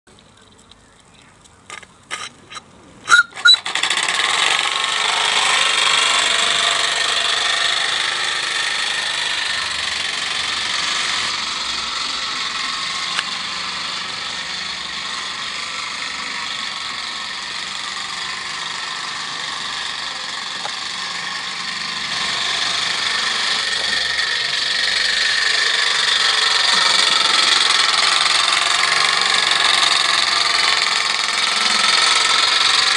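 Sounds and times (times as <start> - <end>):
model steam engine hissing exhaust: 2.5 - 32.9.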